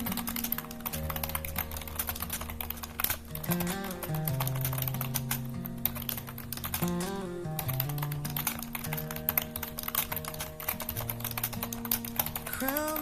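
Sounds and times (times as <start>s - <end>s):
background music with held notes: 0.0s - 13.0s
rapid keyboard typing: 0.0s - 13.0s.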